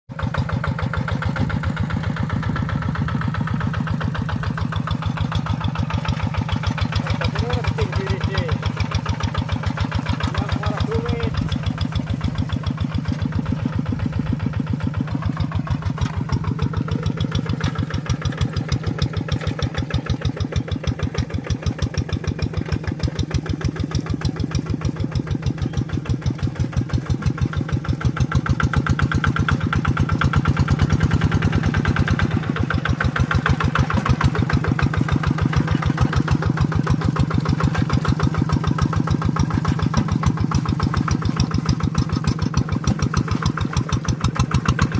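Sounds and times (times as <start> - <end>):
tractor engine running: 0.1 - 44.9.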